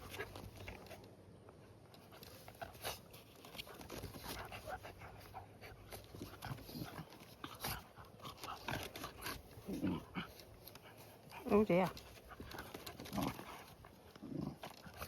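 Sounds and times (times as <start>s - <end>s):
small clicks and rustles: 0.0s - 15.0s
dog panting: 2.0s - 15.0s.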